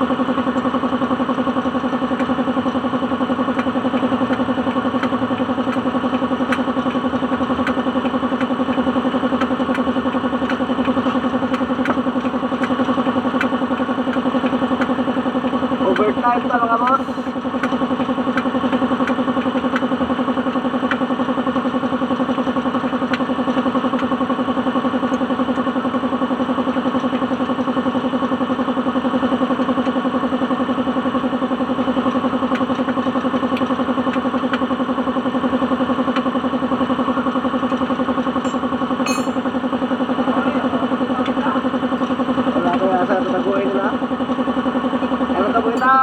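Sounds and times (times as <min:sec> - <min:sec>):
engine idling: 0:00.0 - 0:46.0.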